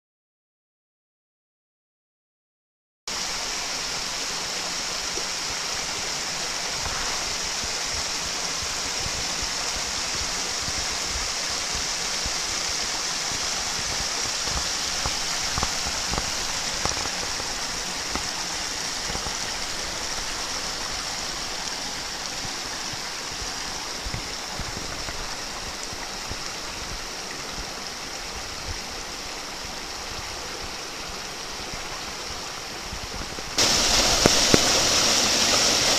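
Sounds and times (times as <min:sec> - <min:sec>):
stream rushing over cascades: 0:03.1 - 0:35.9.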